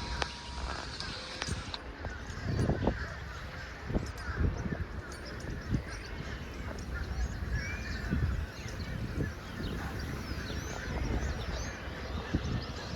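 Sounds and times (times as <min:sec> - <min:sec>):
flock of birds calling: 0:00.0 - 0:12.9.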